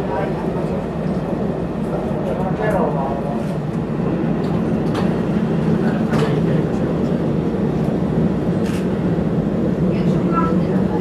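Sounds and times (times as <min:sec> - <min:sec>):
railbus running drone and rumble: 0:00.0 - 0:11.0.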